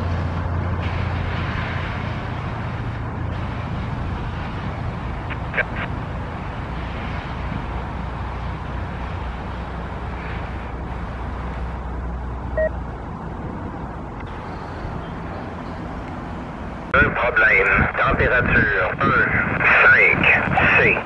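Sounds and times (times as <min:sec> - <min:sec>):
passenger train rumbling on track: 0:00.0 - 0:21.0.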